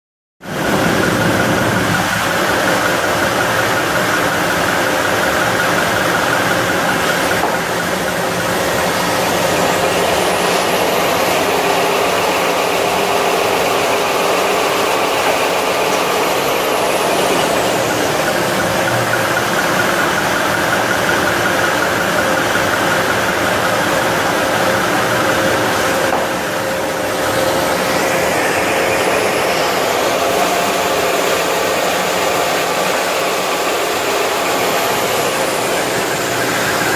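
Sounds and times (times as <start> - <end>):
band saw cutting machine running: 0.4 - 36.9.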